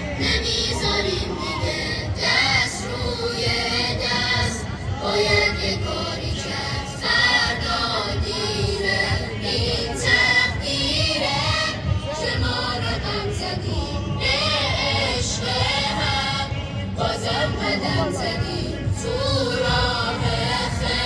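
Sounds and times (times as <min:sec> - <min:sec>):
group singing a mourning chant: 0:00.1 - 0:21.0.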